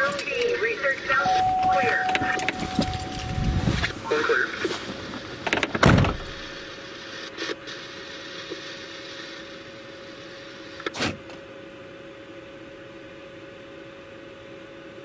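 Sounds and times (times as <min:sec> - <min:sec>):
vehicle cabin hiss and hum: 0:00.0 - 0:15.0.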